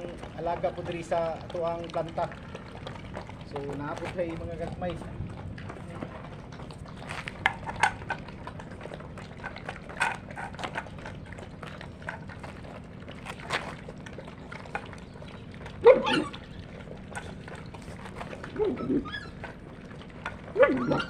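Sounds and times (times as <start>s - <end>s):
dogs chewing and lapping: 0.0s - 21.0s.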